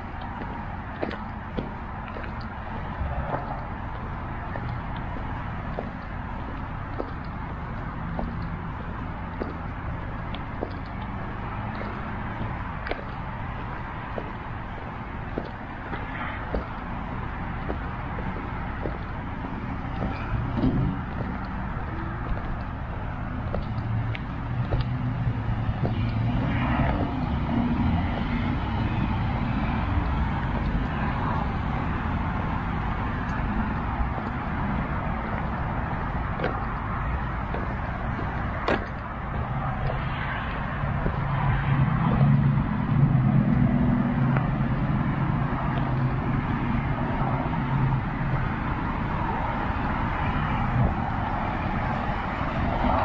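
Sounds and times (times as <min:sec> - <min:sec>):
cars passing: 0:00.0 - 0:53.0
low engine drone: 0:00.0 - 0:53.0.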